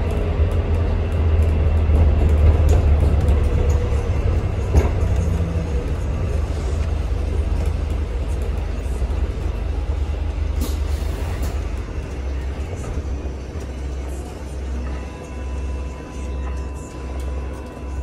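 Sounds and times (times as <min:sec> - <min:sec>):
bus interior rumble: 0:00.0 - 0:18.0.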